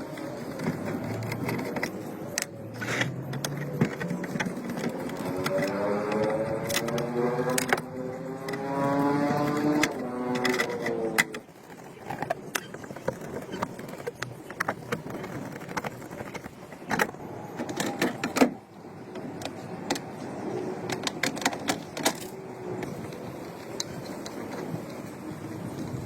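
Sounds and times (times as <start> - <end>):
steady background noise: 0.0 - 26.0
tools and parts clicking: 0.0 - 26.0.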